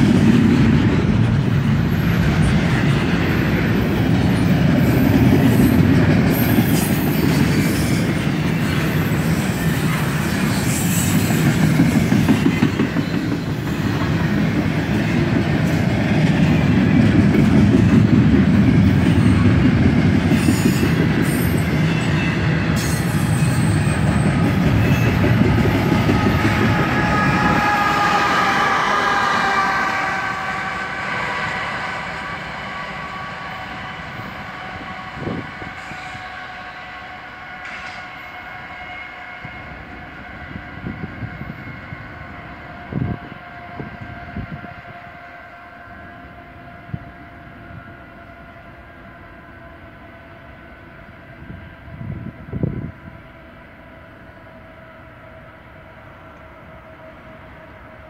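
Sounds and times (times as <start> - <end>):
train wheels rumbling on rails: 0.0 - 48.6
high ringing from train: 0.0 - 58.0.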